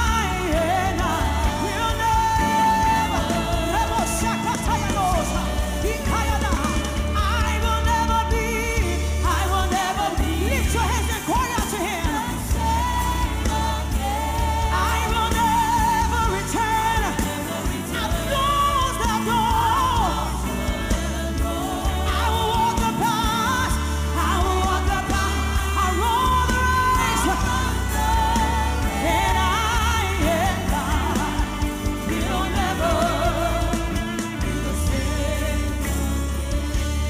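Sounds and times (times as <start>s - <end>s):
band with drums and bass: 0.0s - 37.0s
vocalists singing held notes: 0.0s - 37.0s.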